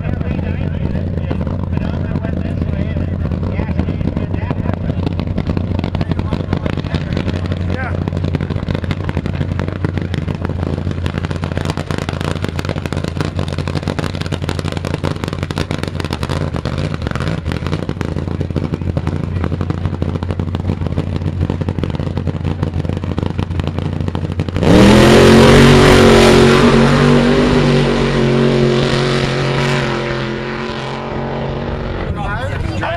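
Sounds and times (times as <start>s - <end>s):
engine idling and revving: 0.0s - 32.9s.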